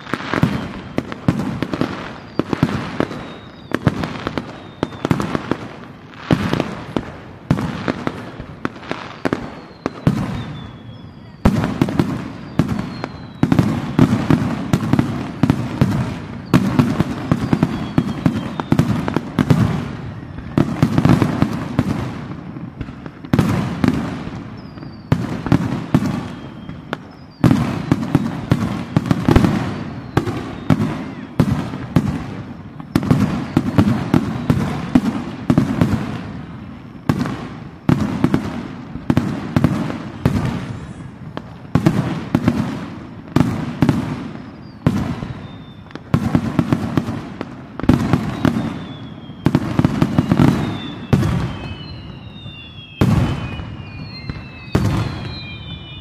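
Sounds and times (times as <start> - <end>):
firework whistles: 0.0 - 56.0
fireworks bursting: 0.0 - 56.0.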